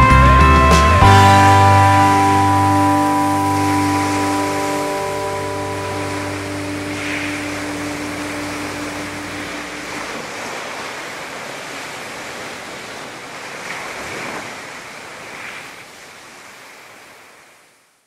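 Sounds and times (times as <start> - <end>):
ocean surf washing on beach: 0.8 - 18.0.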